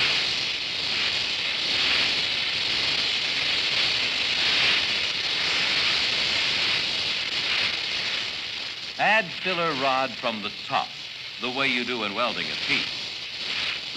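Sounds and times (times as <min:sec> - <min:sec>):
welding torch flame hissing: 0:00.0 - 0:13.9.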